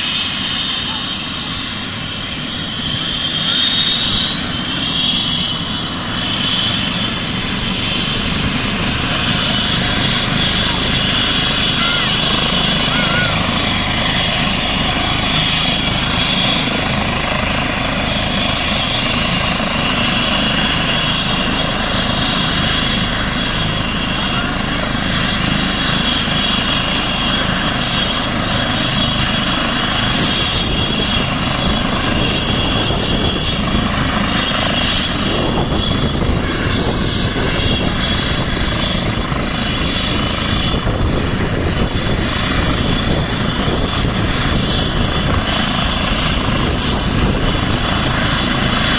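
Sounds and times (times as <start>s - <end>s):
helicopter rotor and engine rush: 0.0s - 48.9s
high turbine whine: 0.0s - 48.9s.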